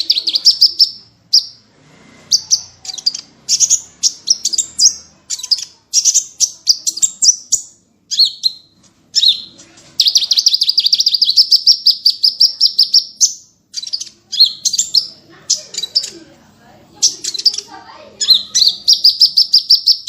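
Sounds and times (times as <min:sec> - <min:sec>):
bird trill: 0:00.0 - 0:01.7, 0:02.3 - 0:16.2, 0:17.0 - 0:20.0
songbirds chirping: 0:00.0 - 0:20.0.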